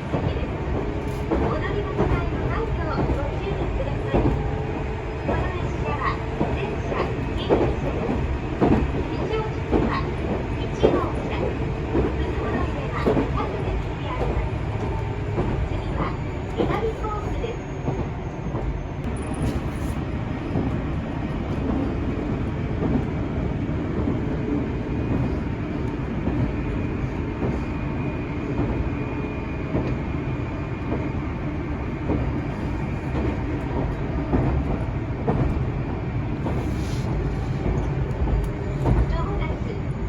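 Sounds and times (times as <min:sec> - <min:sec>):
wheels rumbling on rail: 0:00.0 - 0:40.0.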